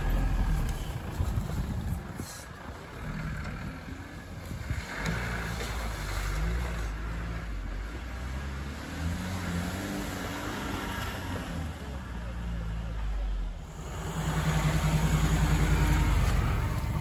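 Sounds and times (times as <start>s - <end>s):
off-road vehicle engine running: 0.0s - 17.0s.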